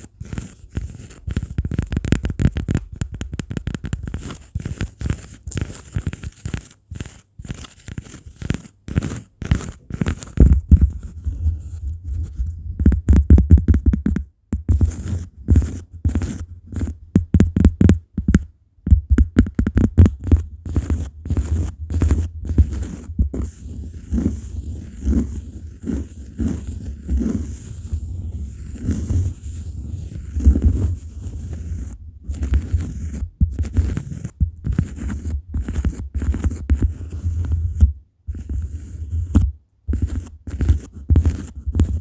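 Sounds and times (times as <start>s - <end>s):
fingers tapping and scratching cork: 0.0s - 11.4s, 12.8s - 42.0s.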